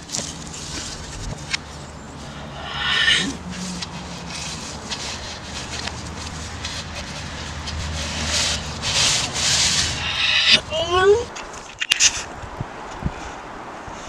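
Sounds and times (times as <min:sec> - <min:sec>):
low hum: 0:00.0 - 0:11.4
reversed rubbing scraping noise: 0:00.0 - 0:12.3.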